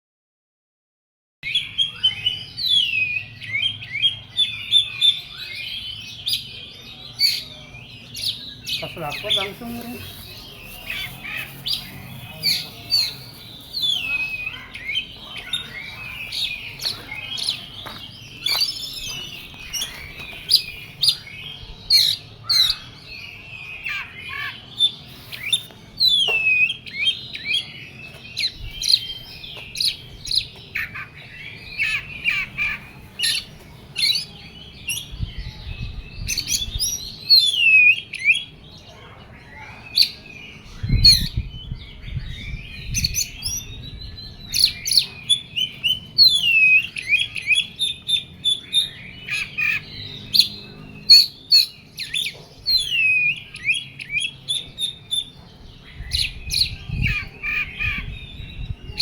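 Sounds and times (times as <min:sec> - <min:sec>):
bird singing varied song: 0:01.4 - 0:59.0.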